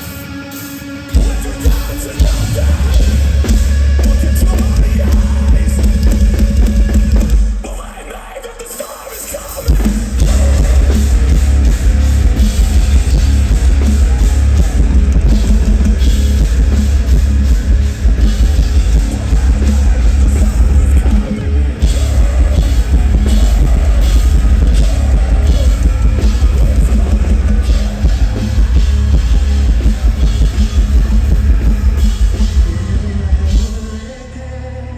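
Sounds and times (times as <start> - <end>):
metalcore band playing loudly: 0.0 - 34.9.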